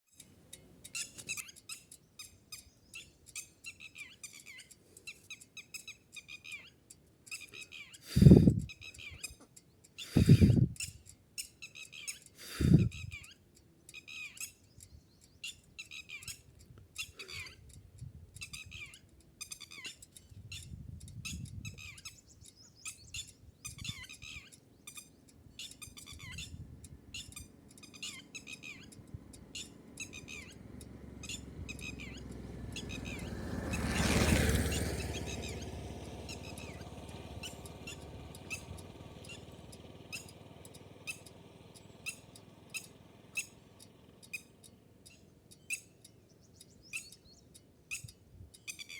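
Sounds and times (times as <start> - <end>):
bird chicks cheeping: 0.2 - 48.9.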